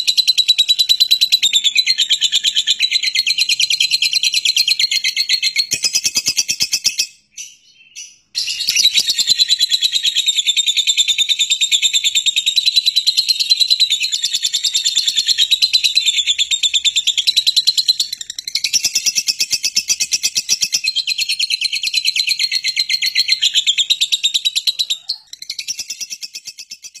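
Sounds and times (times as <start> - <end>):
lovebird chattering trill: 0.0 - 27.0.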